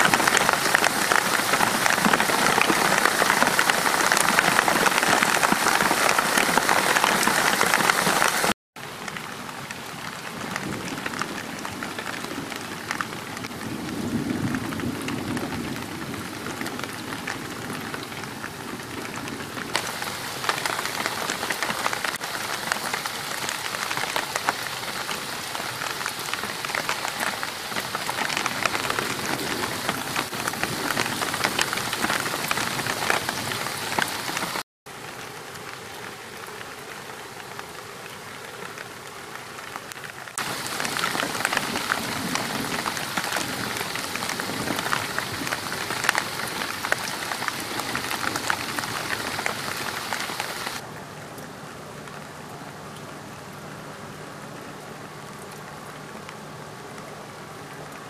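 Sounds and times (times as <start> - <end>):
heavy rain on lake: 0.0 - 58.0
light rain pattering on water: 0.0 - 58.0.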